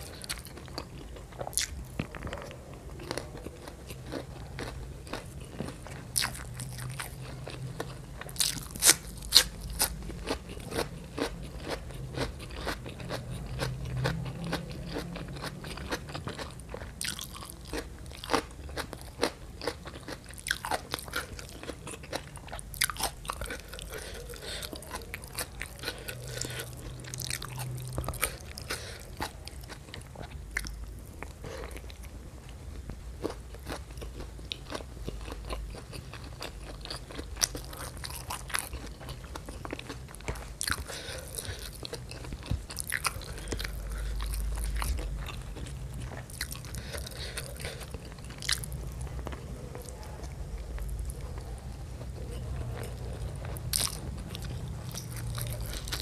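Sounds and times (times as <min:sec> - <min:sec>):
chewing and mouth clicks: 0:00.0 - 0:56.0.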